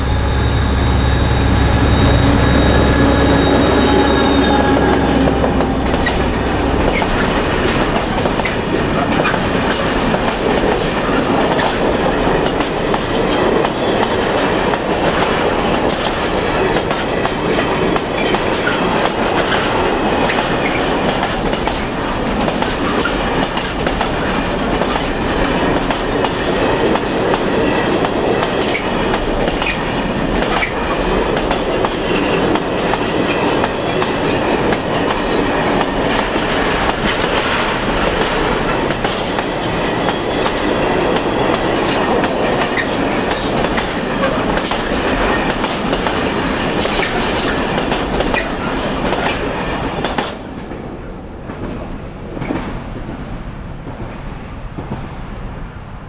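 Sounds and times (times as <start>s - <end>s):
freight train wheels clattering: 0.0s - 54.2s
receding train rumble: 0.0s - 56.0s.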